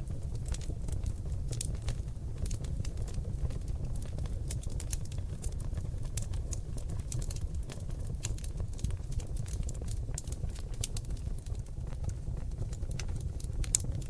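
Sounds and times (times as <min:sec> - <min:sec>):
log fire crackling and popping: 0:00.0 - 0:14.0.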